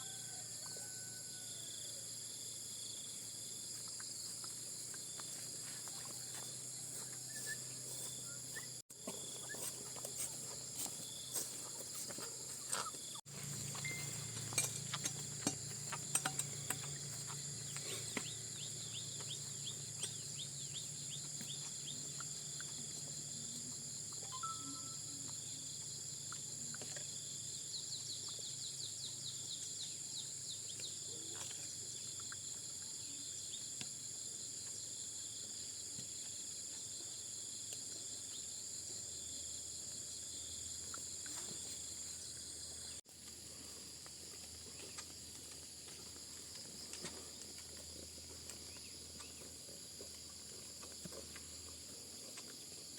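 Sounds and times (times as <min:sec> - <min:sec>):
insects trilling: 0:00.0 - 0:52.9
rapid repeated insect chirps: 0:00.0 - 0:52.9.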